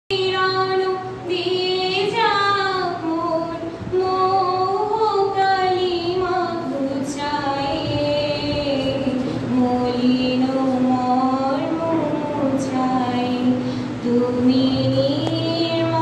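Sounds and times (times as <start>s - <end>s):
woman singing into microphone: 0.1s - 16.0s.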